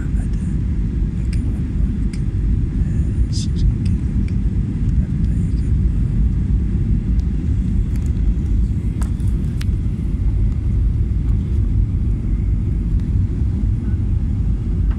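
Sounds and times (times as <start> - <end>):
airliner cabin engine rumble: 0.0 - 14.9.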